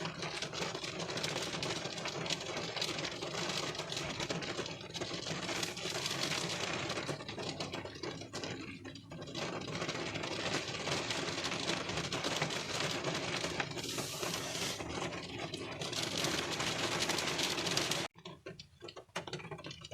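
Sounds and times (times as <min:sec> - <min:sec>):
rain pattering on car windshield: 0:00.0 - 0:19.9.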